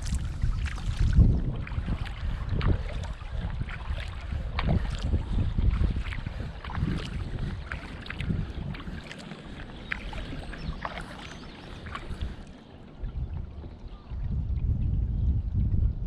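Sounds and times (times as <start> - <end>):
paddle splashing water: 0.0 - 14.9
wind on microphone: 0.0 - 16.0.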